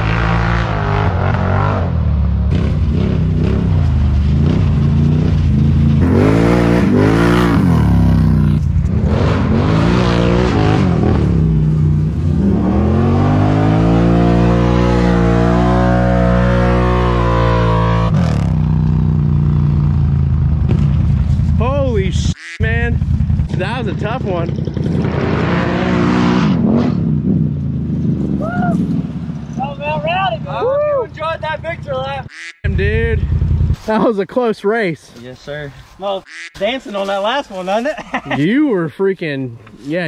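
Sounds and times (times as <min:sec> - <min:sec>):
atv engines revving: 0:00.0 - 0:35.0, 0:36.2 - 0:40.0.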